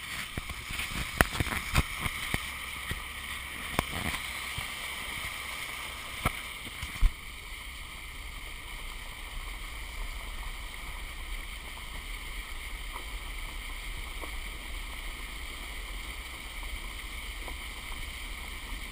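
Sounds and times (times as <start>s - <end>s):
water splashing from tyres: 0.0s - 18.9s.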